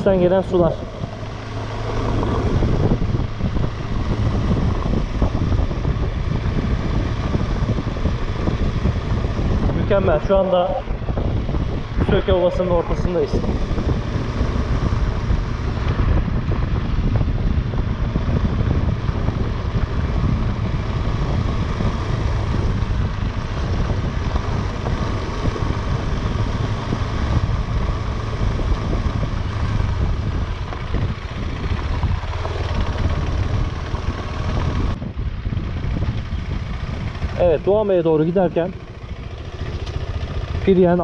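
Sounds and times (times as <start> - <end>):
motorcycle engine running: 0.0 - 41.0
wind noise on microphone: 0.0 - 41.0.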